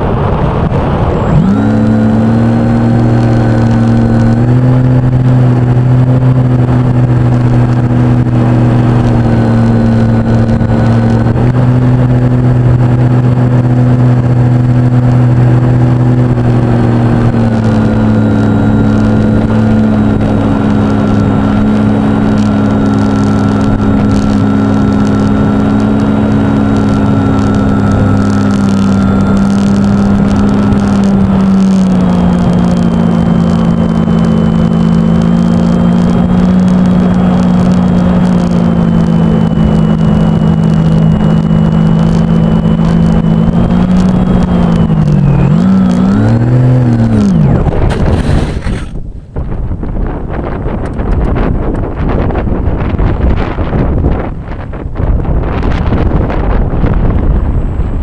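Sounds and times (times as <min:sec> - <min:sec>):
model plane electric motor whine: 0:00.7 - 0:49.1.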